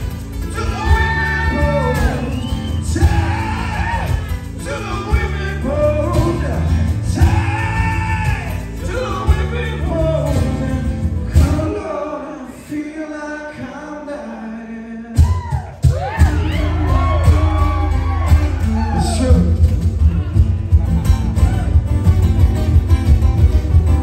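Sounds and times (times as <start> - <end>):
strummed acoustic guitars: 0.0 - 24.0
man singing lead vocal: 0.4 - 20.4.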